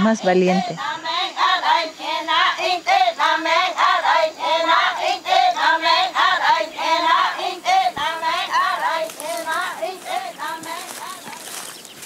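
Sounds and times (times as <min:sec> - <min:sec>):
women chanting in unison: 0:00.0 - 0:11.5.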